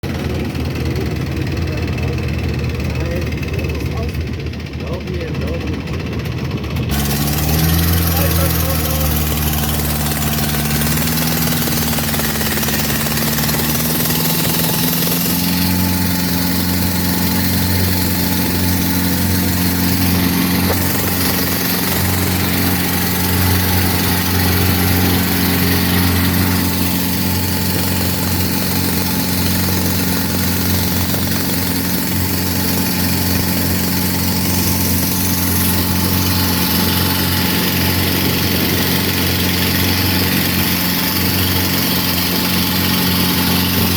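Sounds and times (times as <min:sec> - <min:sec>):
boat engine running: 0:00.0 - 0:43.9
constant rushing noise: 0:00.0 - 0:43.9.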